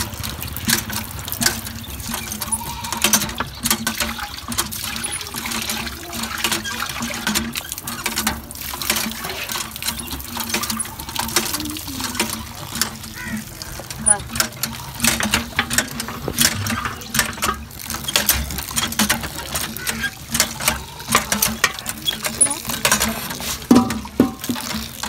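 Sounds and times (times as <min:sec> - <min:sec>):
metal pots clinking and knocking: 0:00.0 - 0:25.0
water running into metal bowl: 0:00.0 - 0:25.0
water splashing and pouring: 0:00.0 - 0:25.0.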